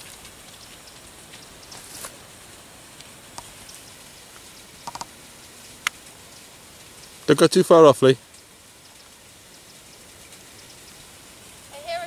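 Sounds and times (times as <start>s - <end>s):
faint hiss: 0.0s - 12.0s
soft ticks and rustles: 0.0s - 12.0s.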